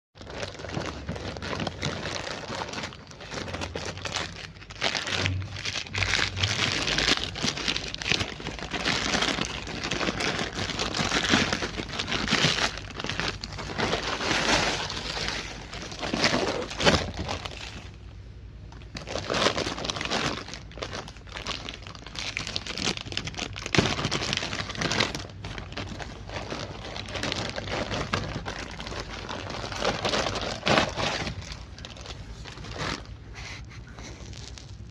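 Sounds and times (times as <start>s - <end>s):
packaging crinkling as torn open: 0.2s - 17.9s, 18.9s - 33.2s.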